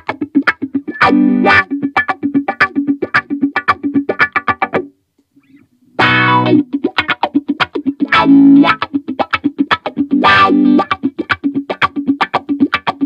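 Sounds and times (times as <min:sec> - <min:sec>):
electric guitar chords: 0:00.0 - 0:04.9, 0:05.9 - 0:13.0
electric guitar picked notes: 0:00.0 - 0:13.0.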